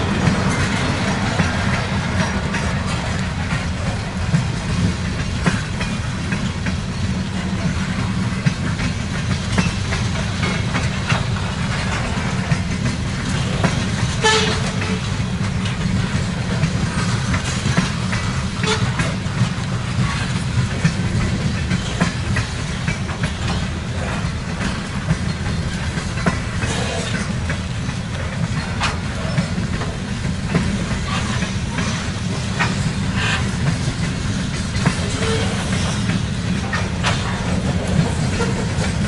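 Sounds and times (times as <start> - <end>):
freight train rumbling past: 0.0 - 39.0.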